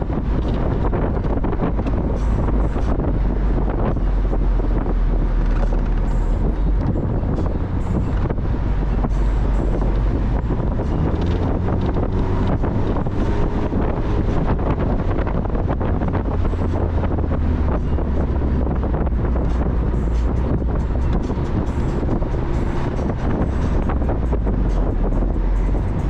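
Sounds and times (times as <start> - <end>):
car engine rumble: 0.0 - 26.0
road noise: 0.0 - 26.0
wind buffeting microphone: 0.0 - 26.0.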